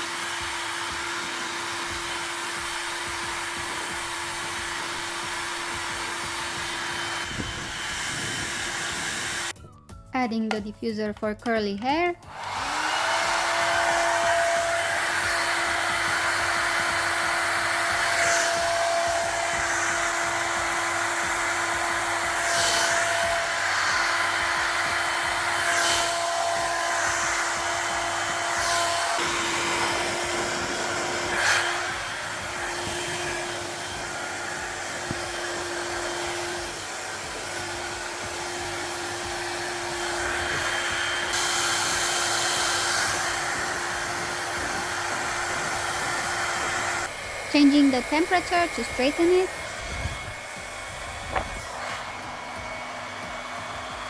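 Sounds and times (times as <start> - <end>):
hair dryer running: 0.0 - 9.6, 12.2 - 54.0.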